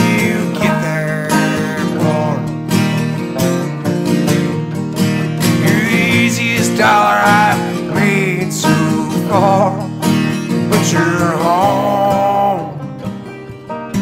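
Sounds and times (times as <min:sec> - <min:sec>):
country music with guitar: 0:00.0 - 0:14.0.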